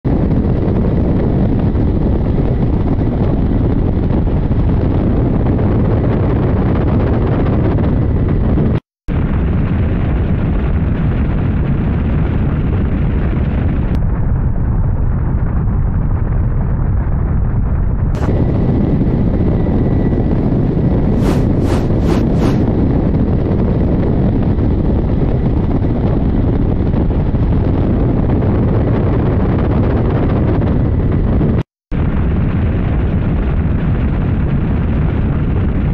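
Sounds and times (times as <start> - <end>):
helicopter rotor rumble: 0.1 - 35.9.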